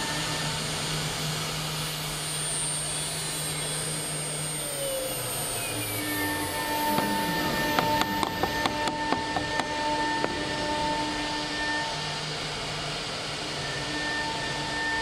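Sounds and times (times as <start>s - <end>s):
cnc router whirring: 0.0s - 15.0s.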